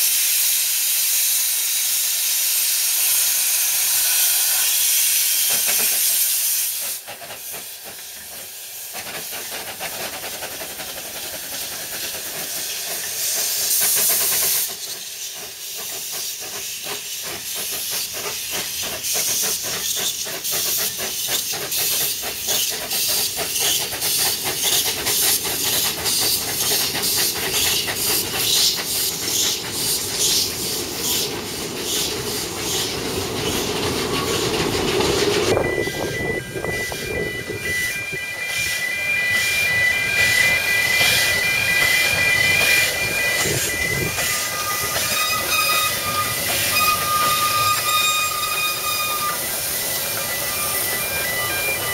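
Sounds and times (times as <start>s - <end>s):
steam hissing: 0.0s - 51.9s
steam locomotive exhaust chuffs: 0.0s - 51.9s.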